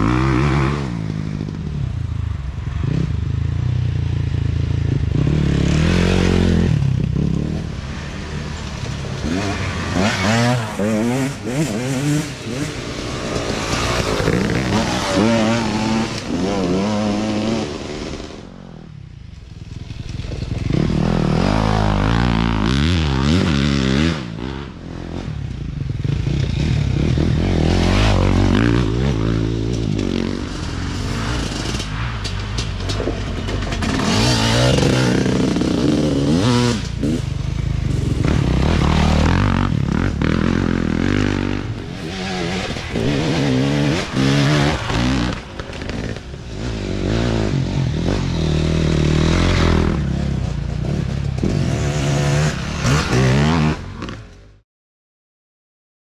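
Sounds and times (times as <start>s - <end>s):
dirt bikes revving past: 0.0s - 54.6s.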